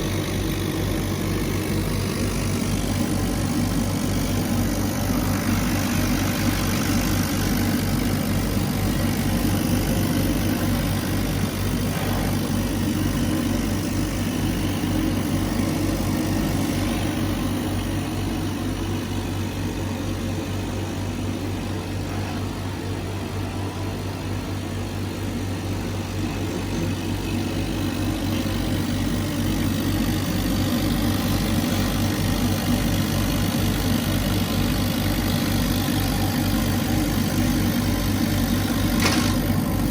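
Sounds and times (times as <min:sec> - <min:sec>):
laser cutter humming: 0:00.0 - 0:39.9.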